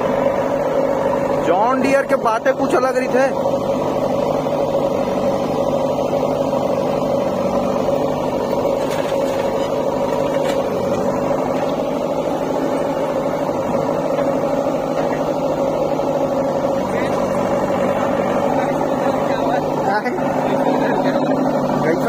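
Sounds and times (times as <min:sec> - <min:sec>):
backhoe arm working: 0:00.0 - 0:22.0
diesel engine running: 0:00.0 - 0:22.0.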